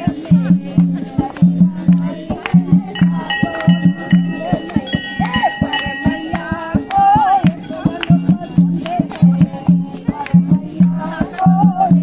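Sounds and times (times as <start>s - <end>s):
fast percussion beat: 0.0s - 12.0s
women singing devotional song: 0.0s - 12.0s.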